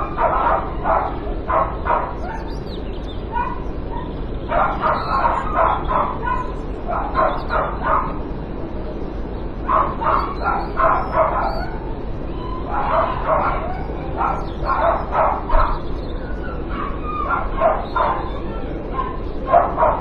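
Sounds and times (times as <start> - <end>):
dog barking: 0.0 - 2.6, 3.3 - 8.3, 9.7 - 20.0
steady low hum: 0.0 - 20.0.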